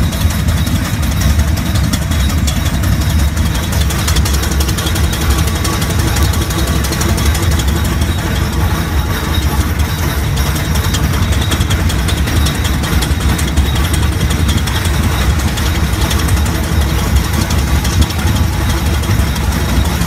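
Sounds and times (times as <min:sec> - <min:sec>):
steam traction engine working hard: 0:00.0 - 0:20.0.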